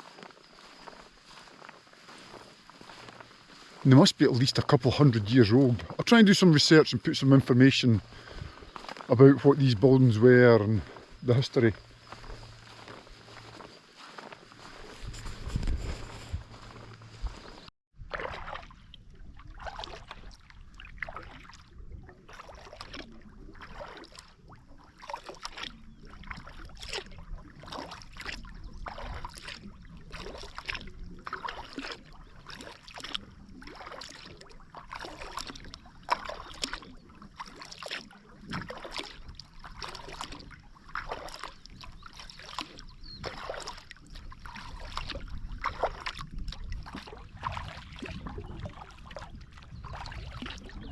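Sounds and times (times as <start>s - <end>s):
paddle strokes through water: 0.0s - 50.9s.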